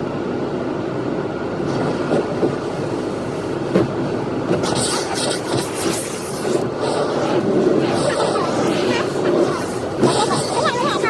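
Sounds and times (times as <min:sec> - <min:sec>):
car wash water and machinery: 0:00.0 - 0:11.0.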